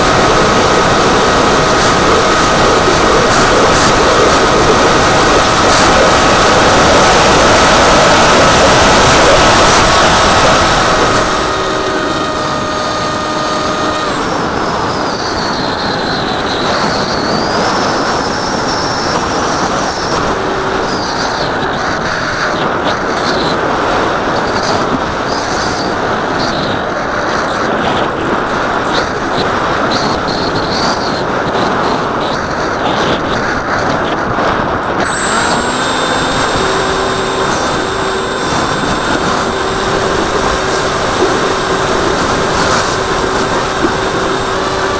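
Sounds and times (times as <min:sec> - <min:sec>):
electric motor and propeller whine: 0:00.0 - 0:32.2, 0:34.8 - 0:44.9
wind rushing over camera: 0:00.0 - 0:44.9.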